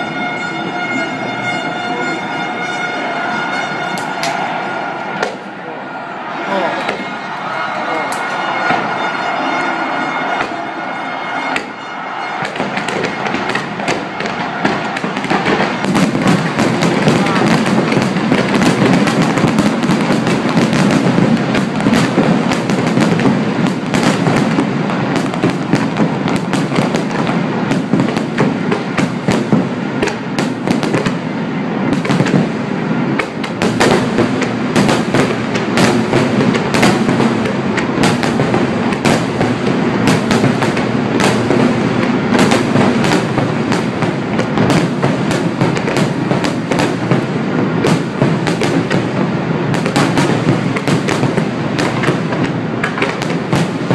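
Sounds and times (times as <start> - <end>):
fireworks bursting: 0.0 - 53.9.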